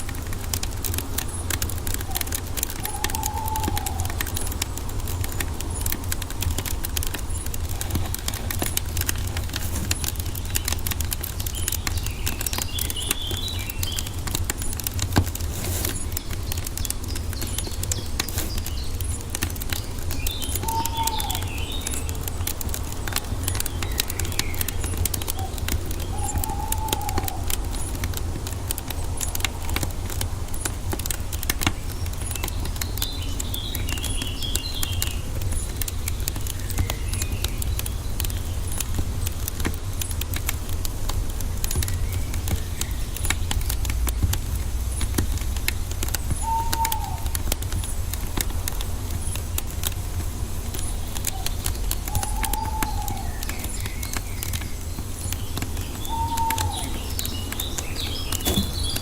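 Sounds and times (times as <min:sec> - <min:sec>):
wood fire crackling and popping: 0:00.0 - 0:59.0
bird calls: 0:01.1 - 0:39.4, 0:44.9 - 0:59.0.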